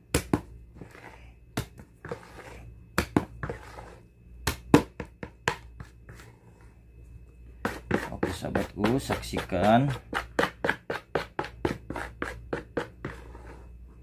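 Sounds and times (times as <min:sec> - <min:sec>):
dough rustling and scraping: 0:00.4 - 0:04.1, 0:05.6 - 0:06.8, 0:07.6 - 0:14.0.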